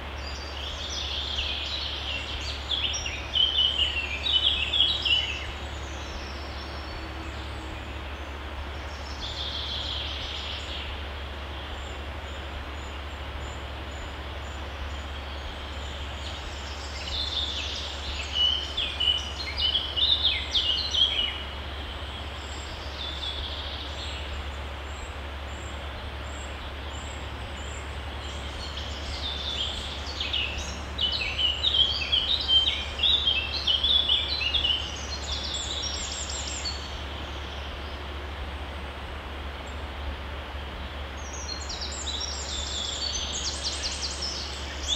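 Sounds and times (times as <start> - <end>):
songbird singing: 0.0 - 44.9
stream water running: 0.0 - 44.9.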